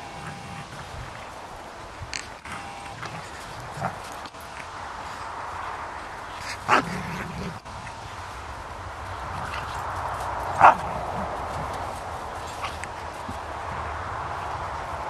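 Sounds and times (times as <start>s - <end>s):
dogs play-fighting: 0.0s - 15.0s.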